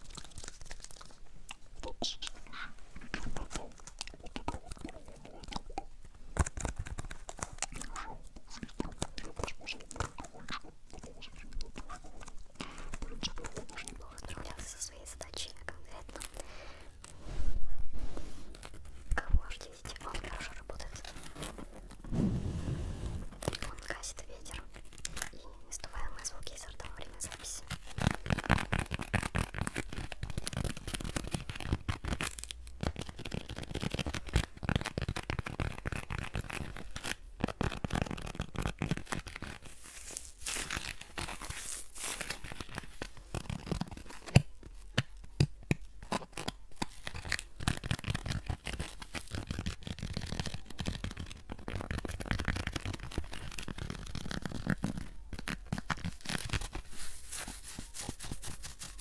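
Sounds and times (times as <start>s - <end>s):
scratching and crinkling at microphone: 0.0s - 59.0s.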